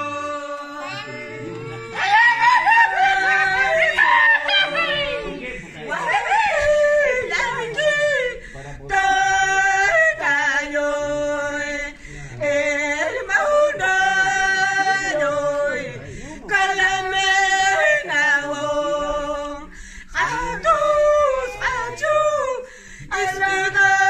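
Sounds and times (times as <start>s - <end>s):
women singing high held notes: 0.0s - 24.0s.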